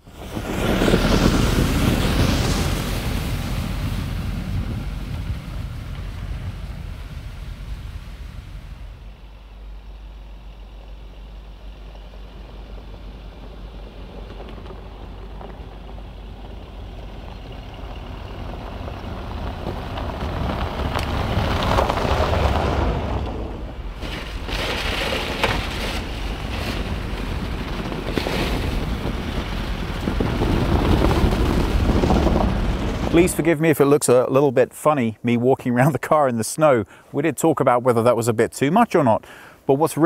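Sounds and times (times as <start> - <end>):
pickup truck engine and tyre noise: 0.0 - 34.0.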